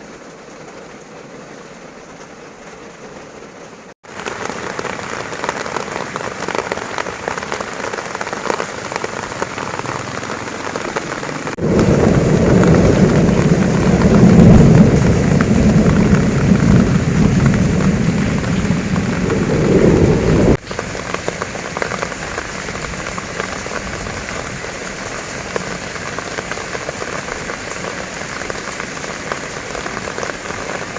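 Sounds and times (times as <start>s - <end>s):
heavy rain on vehicle roof: 0.0s - 30.9s.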